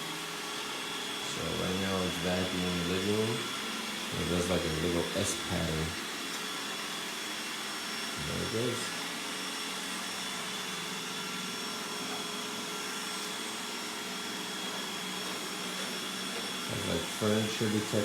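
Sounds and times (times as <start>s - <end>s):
robot vacuum whirring: 0.1s - 18.0s.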